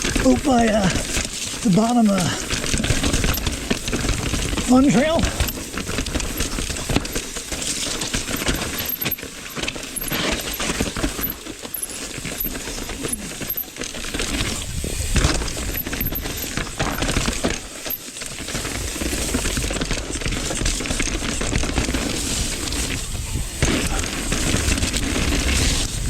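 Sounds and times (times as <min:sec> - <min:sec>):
bike chain and frame rattling: 0:00.0 - 0:26.0
bike tyres on rock and gravel: 0:00.0 - 0:26.0.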